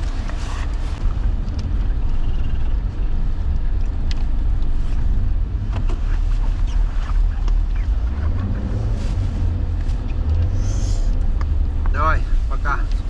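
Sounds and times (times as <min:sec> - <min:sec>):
car engine deep rumble: 0:00.0 - 0:13.0.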